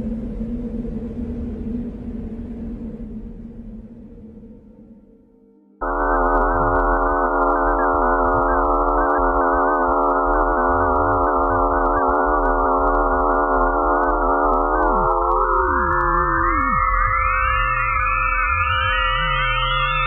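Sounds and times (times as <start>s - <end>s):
eerie electronic drone: 0.0s - 20.0s
low hum: 0.0s - 20.0s.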